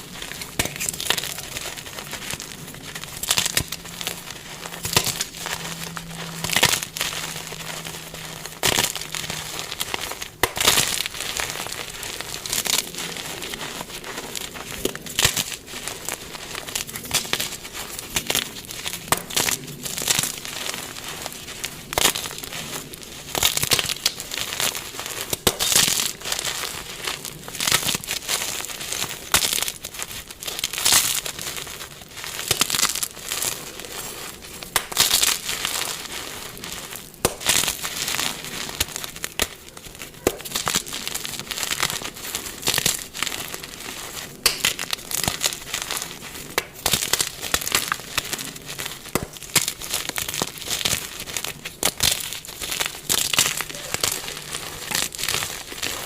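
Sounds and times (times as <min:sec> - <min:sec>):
chalk blocks crunching: 0:00.0 - 0:56.0.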